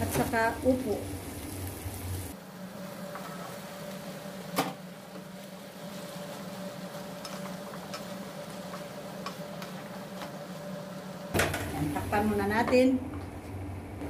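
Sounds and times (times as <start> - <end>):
vegetables stirred in a frying pan: 0.0 - 12.9.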